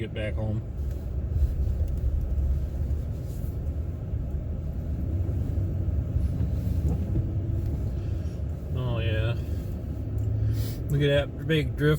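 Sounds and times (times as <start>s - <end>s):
truck engine and tyres in snow: 0.0s - 11.9s.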